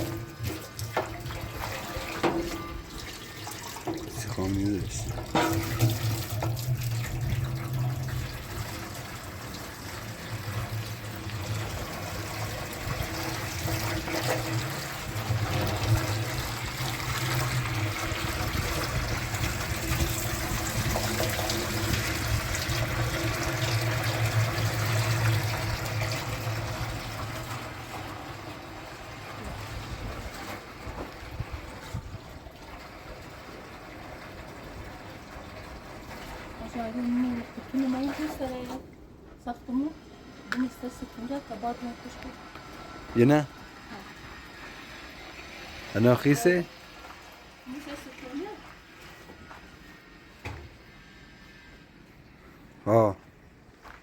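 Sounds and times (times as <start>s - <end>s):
washing machine motor humming: 0.0s - 50.9s
water sloshing in washing machine: 0.0s - 52.7s.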